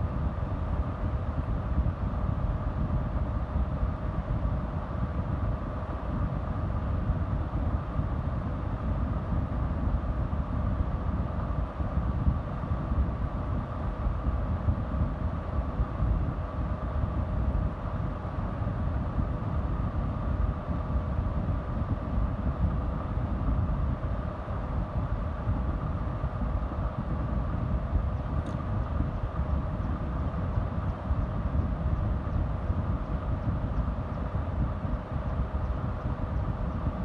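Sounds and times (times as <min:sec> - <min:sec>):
steady low machine rumble: 0:00.0 - 0:37.0.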